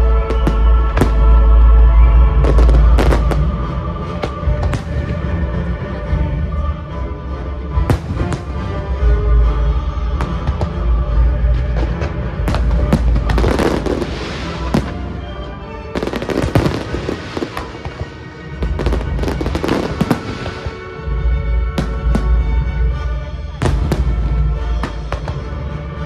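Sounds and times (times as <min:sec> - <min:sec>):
fireworks bangs and crackle: 0:00.0 - 0:01.4, 0:02.4 - 0:05.4, 0:07.8 - 0:08.7, 0:10.1 - 0:26.0
music: 0:00.0 - 0:26.0.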